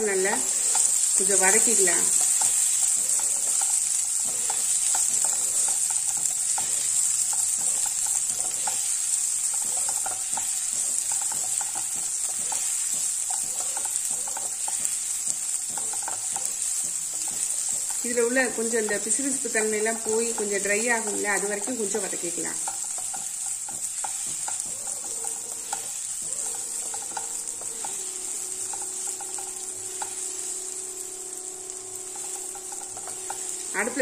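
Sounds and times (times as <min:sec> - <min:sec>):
frying hiss: 0:00.0 - 0:34.0
spatula scraping and tapping: 0:00.2 - 0:34.0.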